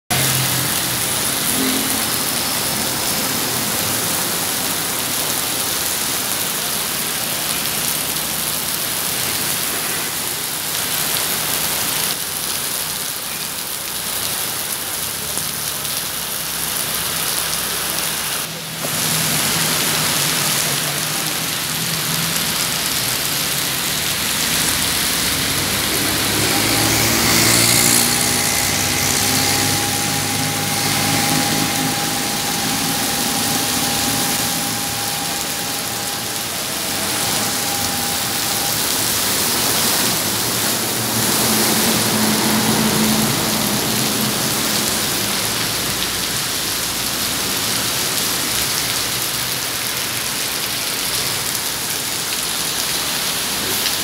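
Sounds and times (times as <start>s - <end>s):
heavy rain pouring on pavement: 0.0s - 54.0s
bus engine passing: 0.1s - 10.7s, 14.9s - 49.8s.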